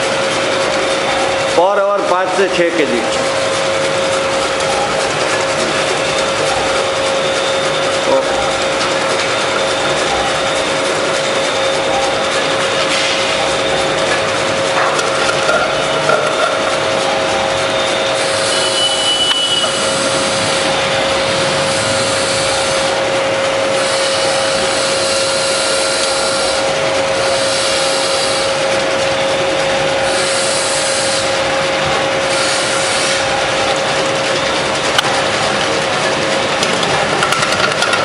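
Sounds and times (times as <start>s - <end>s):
motor hum: 0.0s - 38.0s.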